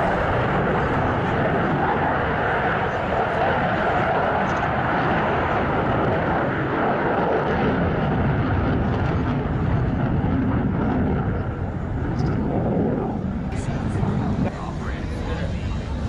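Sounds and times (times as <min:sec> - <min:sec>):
jet engine roar in flight: 0:00.0 - 0:16.0.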